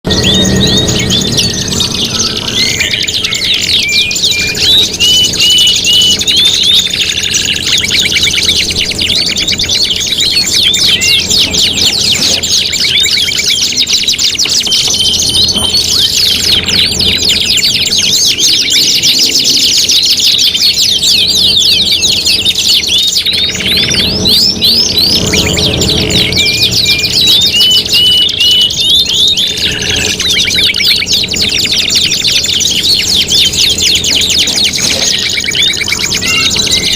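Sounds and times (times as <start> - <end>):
canaries singing: 0.0 - 36.9.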